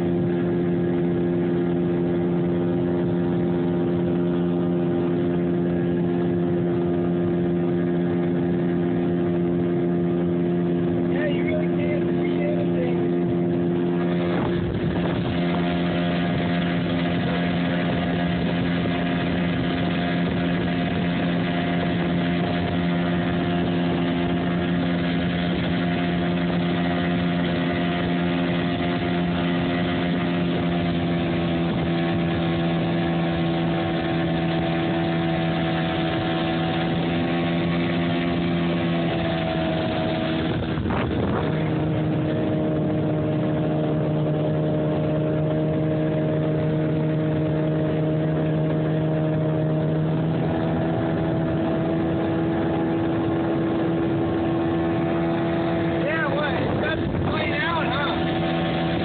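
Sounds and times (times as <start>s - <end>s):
outboard motor running: 0.0s - 59.0s
rushing water: 0.0s - 59.0s
wind: 0.0s - 59.0s.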